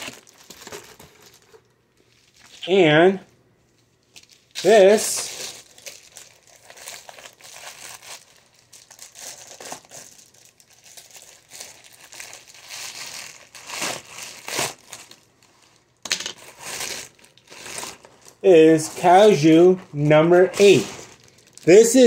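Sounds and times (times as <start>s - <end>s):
plastic mailer crinkling: 0.0s - 2.5s, 4.1s - 15.6s, 16.4s - 22.0s.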